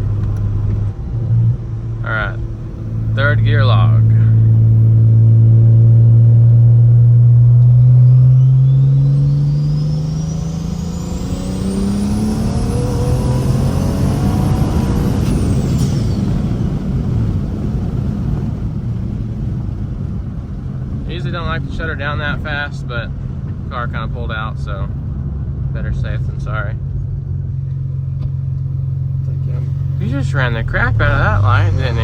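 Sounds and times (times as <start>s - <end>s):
car exhaust rising in pitch: 0.0s - 32.0s
rough coasting engine rumble: 0.0s - 32.0s.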